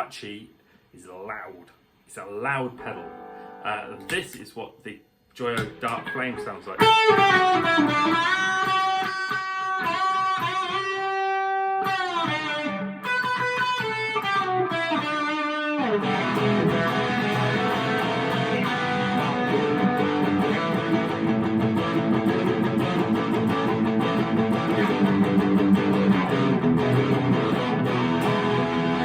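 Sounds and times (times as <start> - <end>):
distorted electric guitar: 5.5 - 29.0.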